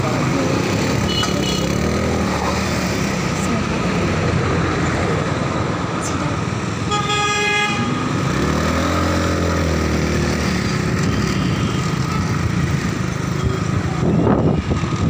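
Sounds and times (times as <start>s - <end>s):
motorcycle engine revving: 0.0s - 6.0s, 7.8s - 15.0s
road noise: 0.0s - 15.0s.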